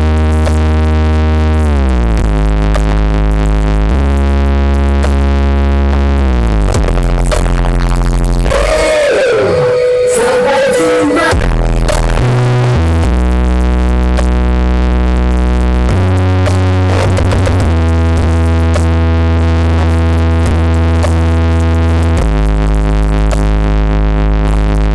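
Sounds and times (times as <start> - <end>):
electronic dance music: 0.0 - 24.9.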